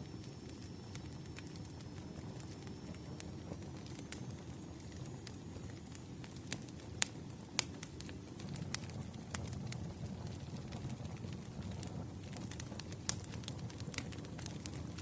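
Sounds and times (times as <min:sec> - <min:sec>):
campfire flames rumbling: 0:00.0 - 0:15.0
firewood popping and crackling: 0:00.1 - 0:15.0.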